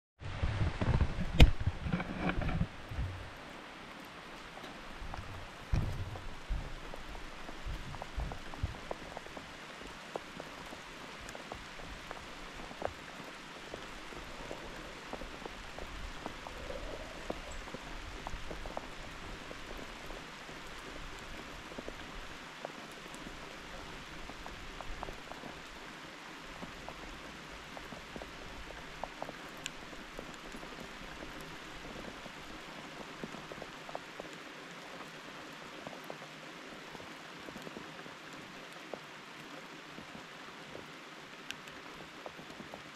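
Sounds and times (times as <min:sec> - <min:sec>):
steady rainfall: 0:00.2 - 0:42.9
raindrops ticking close by: 0:00.6 - 0:42.9.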